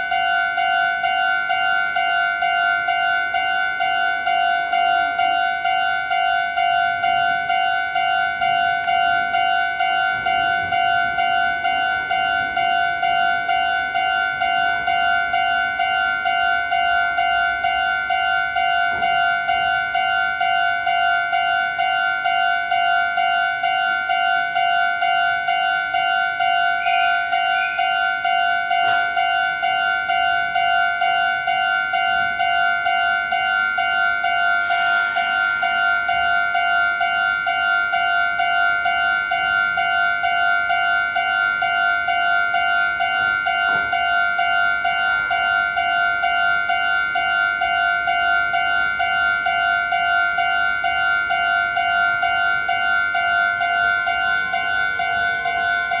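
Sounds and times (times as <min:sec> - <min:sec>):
level crossing alarm bell: 0:00.0 - 0:56.0.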